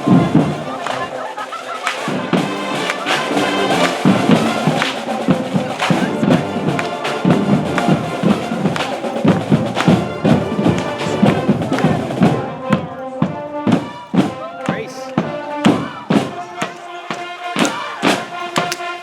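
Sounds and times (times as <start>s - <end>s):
marching band brass: 0.0s - 19.0s
steady drum beat: 0.0s - 19.0s.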